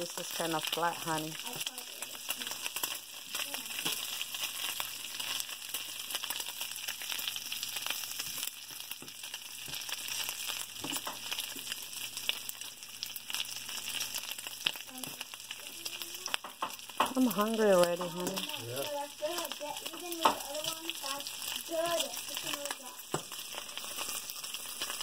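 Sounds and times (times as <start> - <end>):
bacon sizzling in a skillet: 0.0 - 25.0.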